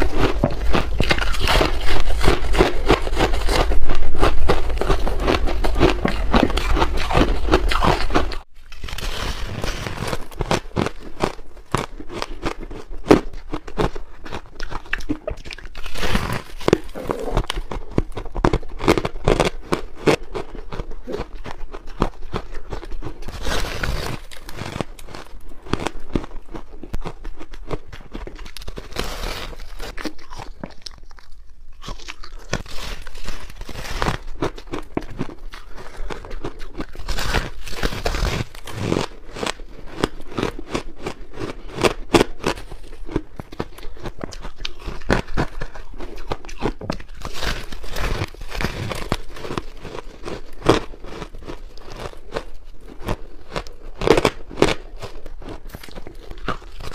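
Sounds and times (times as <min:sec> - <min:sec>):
biting and crunching ice: 0:00.0 - 0:56.9.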